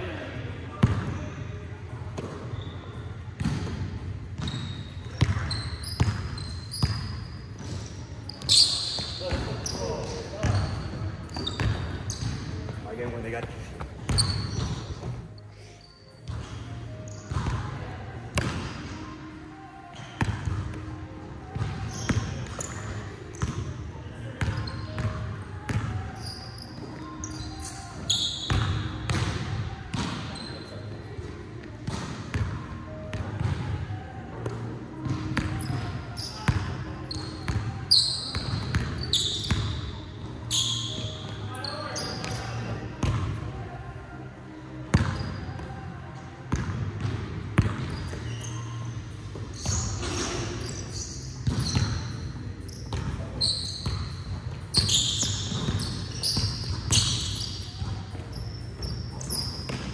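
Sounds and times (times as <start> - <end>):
sneaker squeaks: 2.1 - 17.8, 19.8 - 43.3, 44.9 - 45.9, 46.5 - 59.9.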